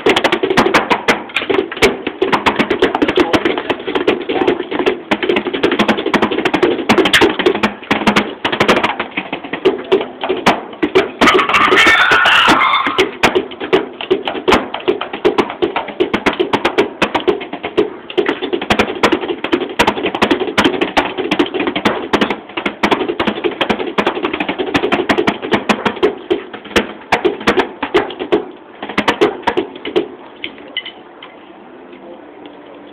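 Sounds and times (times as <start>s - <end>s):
sticks tapping electronic drum pads: 0.0s - 30.1s.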